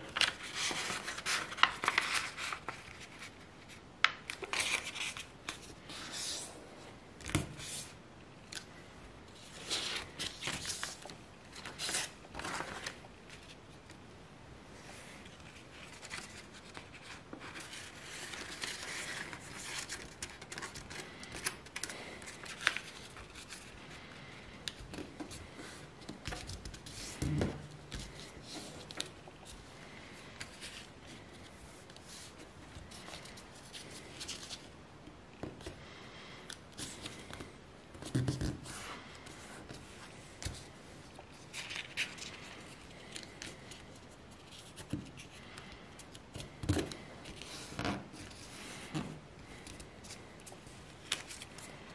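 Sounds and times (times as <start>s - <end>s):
paper crinkling and rustling: 0.0s - 6.5s, 9.4s - 13.7s, 15.2s - 34.7s, 36.8s - 48.9s, 49.5s - 51.9s.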